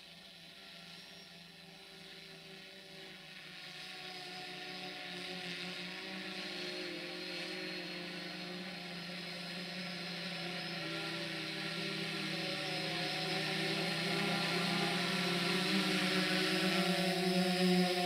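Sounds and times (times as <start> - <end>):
motor hum and whine: 0.0 - 18.0.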